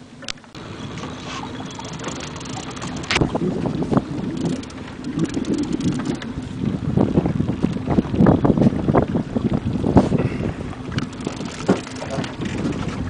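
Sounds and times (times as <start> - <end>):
boat motor running: 0.0 - 13.0
wind buffeting microphone: 0.6 - 13.0.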